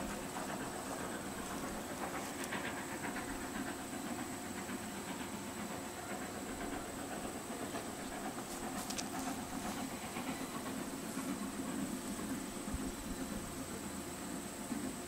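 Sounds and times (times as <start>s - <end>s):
distant steam locomotive rumble: 0.0s - 15.0s
steam hissing: 0.0s - 15.0s.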